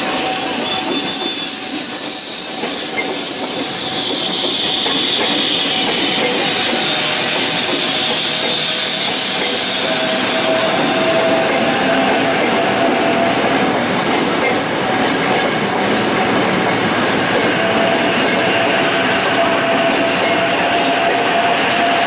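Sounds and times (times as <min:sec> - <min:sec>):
high whine of train: 0:00.0 - 0:22.0
train rumble and hiss: 0:00.0 - 0:22.0
train wheels clattering over rails: 0:00.0 - 0:22.0.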